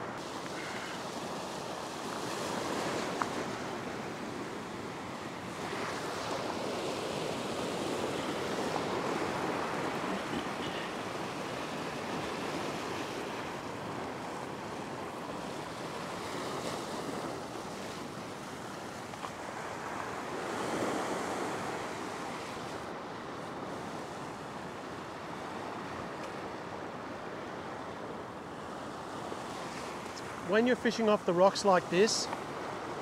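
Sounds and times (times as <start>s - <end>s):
ocean surf breaking on rocks: 0.0s - 33.0s.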